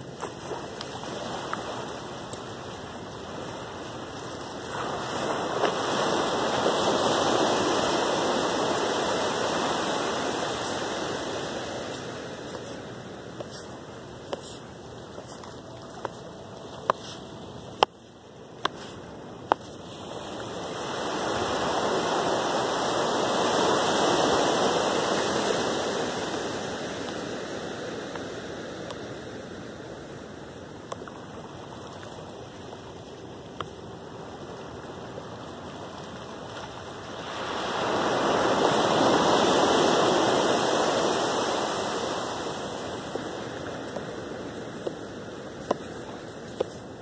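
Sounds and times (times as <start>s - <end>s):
small waves breaking on beach: 0.0s - 47.0s.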